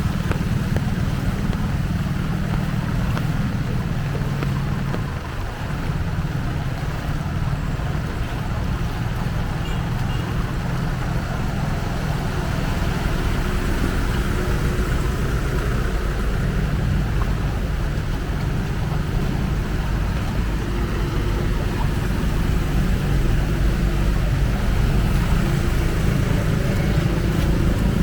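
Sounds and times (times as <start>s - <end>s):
heavy rain downpour: 0.0s - 28.0s.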